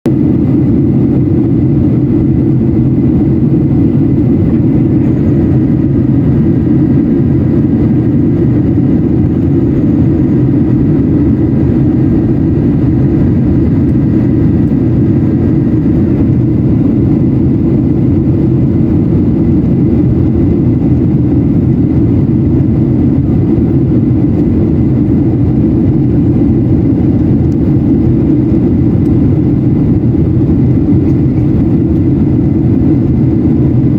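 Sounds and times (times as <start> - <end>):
airliner engines rumbling: 0.0 - 33.9.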